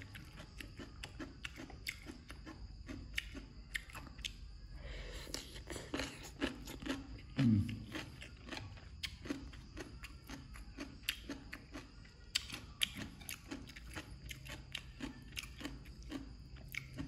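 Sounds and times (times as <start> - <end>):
mouth chewing crunchy food: 0.0 - 17.0.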